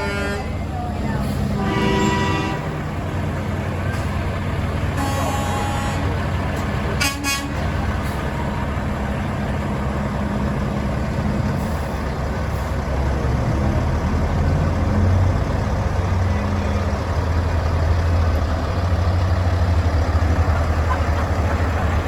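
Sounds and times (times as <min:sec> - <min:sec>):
heavy vehicle engine rumbling: 0:00.0 - 0:22.0.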